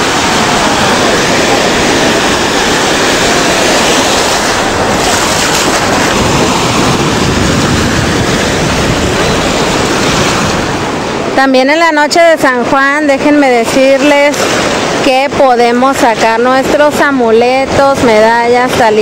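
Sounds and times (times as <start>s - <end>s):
sea surf washing on shore: 0.0s - 19.0s
wind buffeting microphone: 0.0s - 19.0s.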